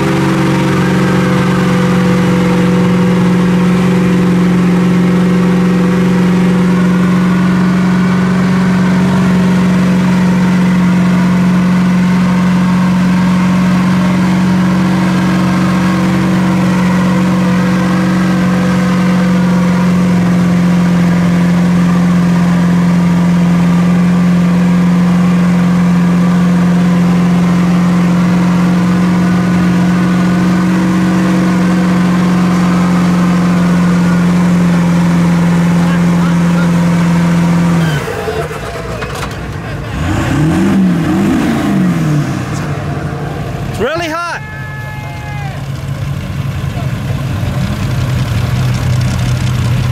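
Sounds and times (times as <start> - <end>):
tires spinning in mud: 0.0 - 49.9
truck engine at high revs: 0.0 - 49.9.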